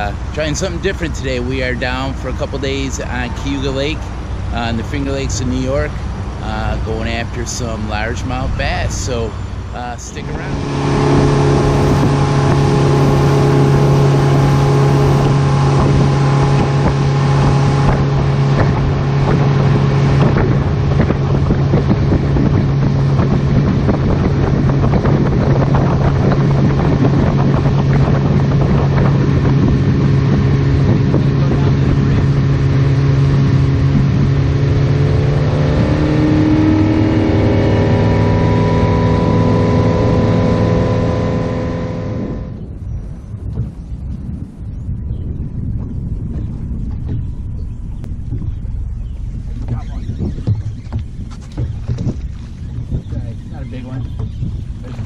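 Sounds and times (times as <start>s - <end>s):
outboard motor running: 0.0s - 55.0s
wind noise on microphone: 0.0s - 55.0s.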